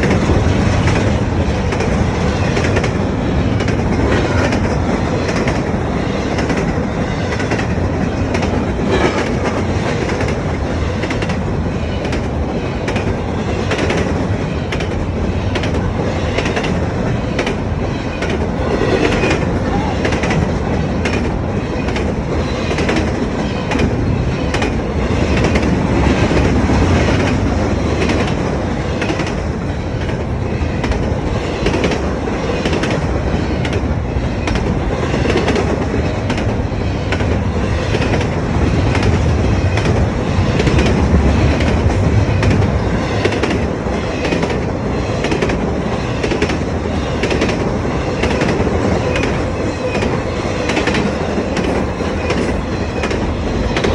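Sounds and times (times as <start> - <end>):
train cars rumbling past: 0.0 - 53.9.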